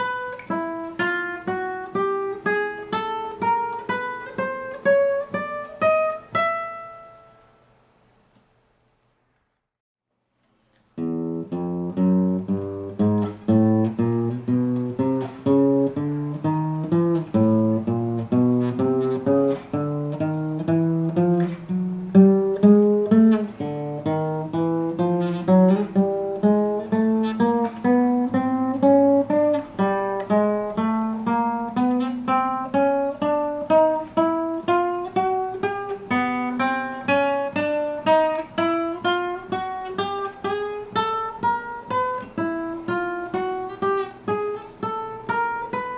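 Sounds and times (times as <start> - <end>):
acoustic guitar notes plucked: 0.0 - 7.6, 10.7 - 45.9.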